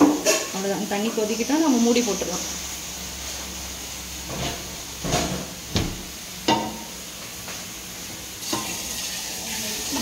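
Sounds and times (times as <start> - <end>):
gas burner hissing: 0.0 - 10.0.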